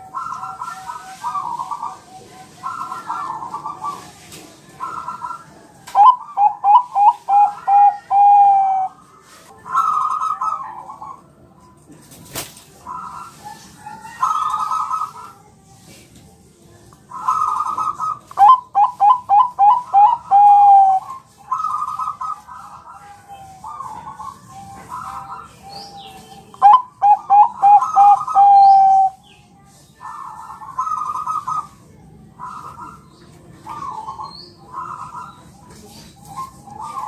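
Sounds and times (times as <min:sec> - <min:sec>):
doves cooing: 0:00.0 - 0:09.0, 0:09.6 - 0:11.4, 0:12.8 - 0:15.4, 0:17.1 - 0:29.2, 0:30.0 - 0:37.0.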